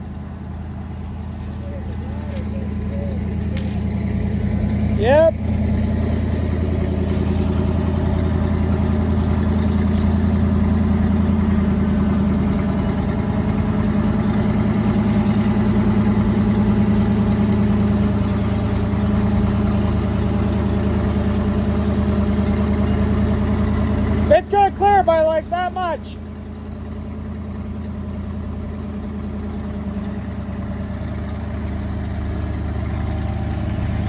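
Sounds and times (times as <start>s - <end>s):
farm machine engine humming: 0.0s - 34.0s.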